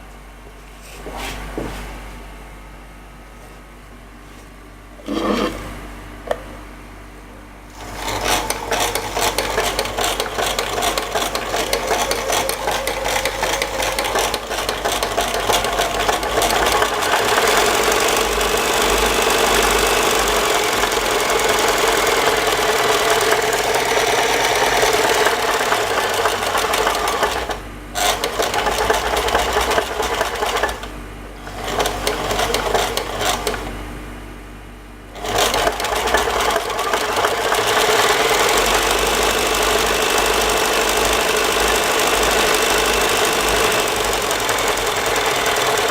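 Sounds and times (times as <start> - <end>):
sewing machine stitching: 5.0 - 5.7, 7.7 - 33.8, 35.2 - 45.9.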